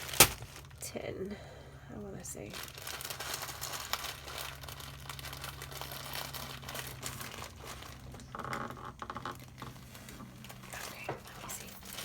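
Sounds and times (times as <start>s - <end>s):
plastic bags crinkling: 0.0s - 0.8s, 2.4s - 12.0s
steady low hum: 0.0s - 12.0s.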